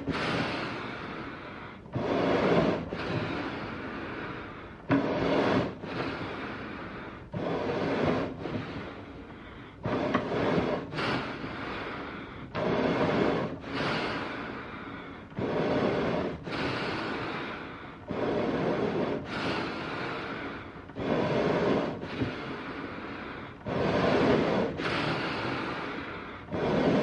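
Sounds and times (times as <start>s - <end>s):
heavy animal breathing: 0.0s - 27.0s.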